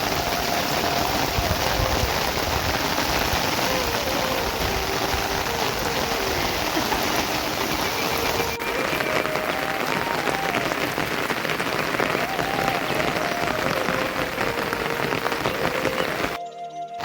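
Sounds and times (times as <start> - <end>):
steady rain falling: 0.0 - 16.4.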